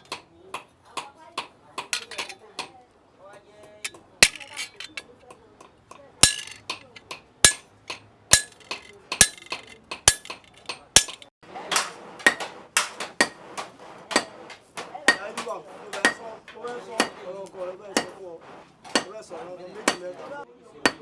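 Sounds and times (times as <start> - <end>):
hammer clanging on anvil: 0.0 - 2.8, 3.6 - 18.2, 18.9 - 21.0.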